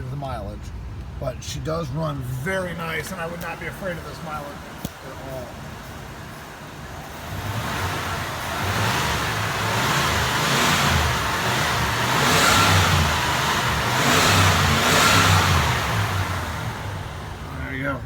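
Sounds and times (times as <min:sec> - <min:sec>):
car engine revving: 0:02.4 - 0:18.0.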